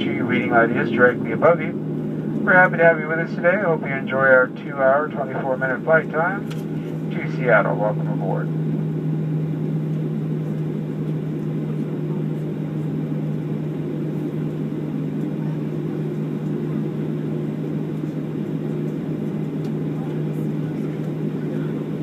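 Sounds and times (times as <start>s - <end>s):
low cabin hum: 0.0s - 22.0s.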